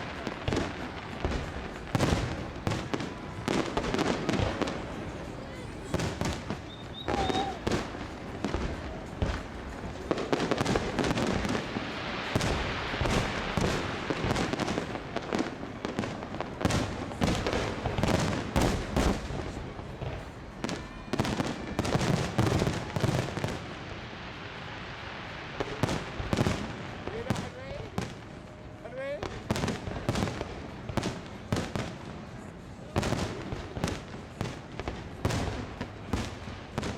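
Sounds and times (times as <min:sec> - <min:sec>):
fireworks crackling: 0:00.0 - 0:36.9.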